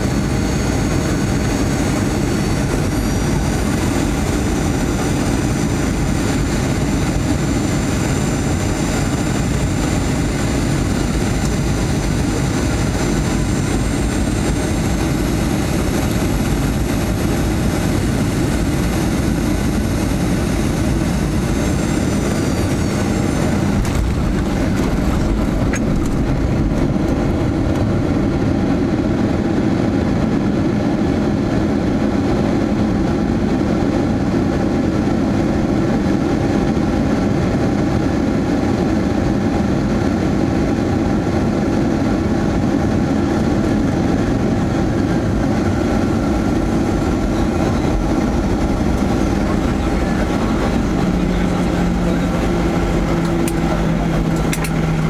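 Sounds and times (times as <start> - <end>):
jet engine roar and whine: 0.0 - 55.0
low runway rumble: 0.0 - 55.0.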